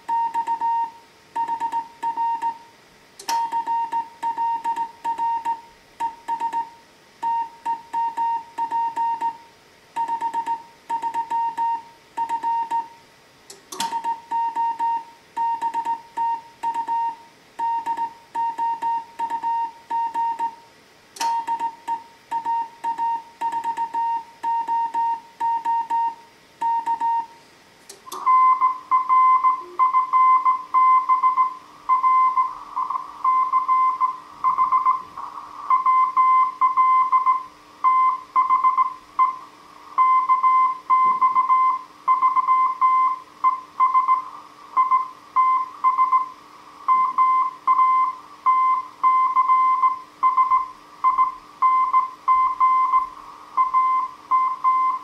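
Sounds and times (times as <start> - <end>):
steady low hum: 0.0 - 55.0
morse code tone: 0.1 - 2.7, 3.3 - 9.4, 10.0 - 13.0, 13.8 - 20.6, 21.2 - 27.4, 28.1 - 39.4, 40.0 - 55.0.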